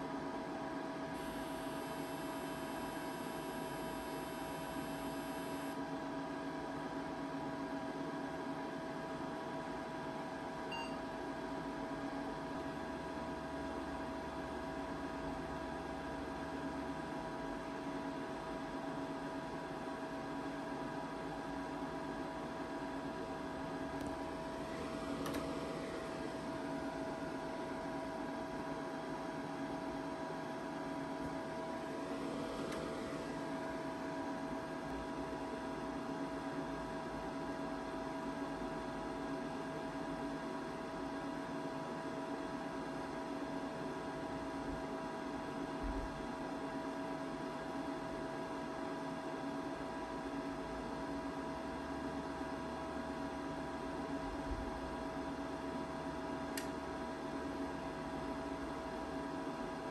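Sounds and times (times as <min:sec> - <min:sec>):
electrical hum and whine: 0:00.0 - 0:59.9.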